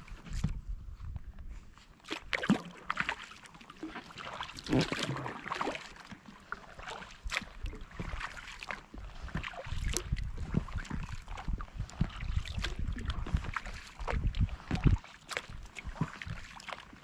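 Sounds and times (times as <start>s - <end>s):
paddle splashing through water: 1.9s - 17.0s.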